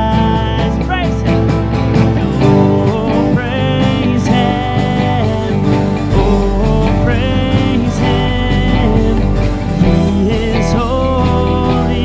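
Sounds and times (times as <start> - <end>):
live band playing: 0.0 - 12.0
strummed acoustic guitar: 0.0 - 12.0.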